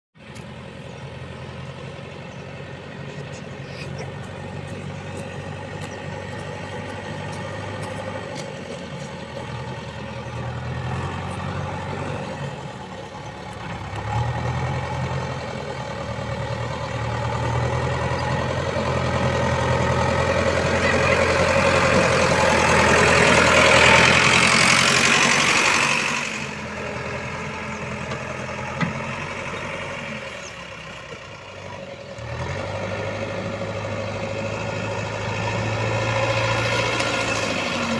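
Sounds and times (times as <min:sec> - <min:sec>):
heavy diesel engine running: 0:00.2 - 0:37.9.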